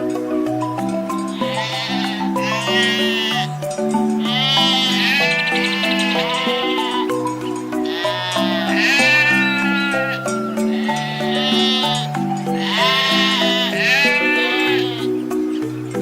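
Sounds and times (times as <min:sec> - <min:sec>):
background music: 0:00.0 - 0:16.0
sheep bleating: 0:01.3 - 0:03.6, 0:04.2 - 0:15.1.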